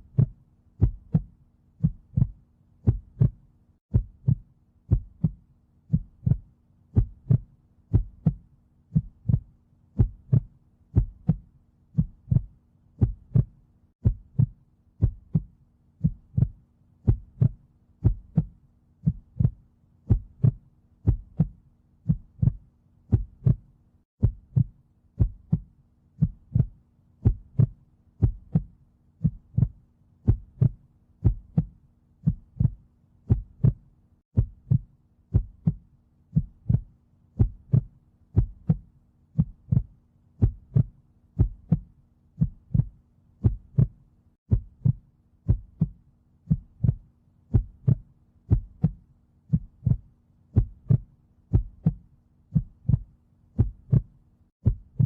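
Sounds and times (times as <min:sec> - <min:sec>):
heartbeat: 0:00.0 - 0:55.0.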